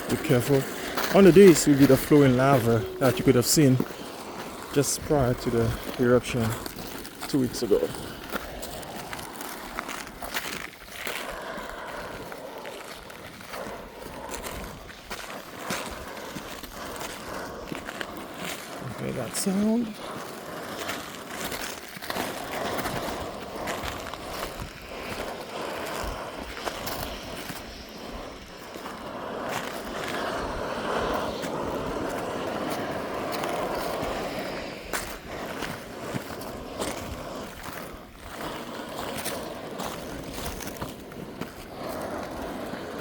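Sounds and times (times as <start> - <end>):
footsteps crunching on lava rock: 0.0 - 43.0
steady rushing noise: 0.0 - 43.0.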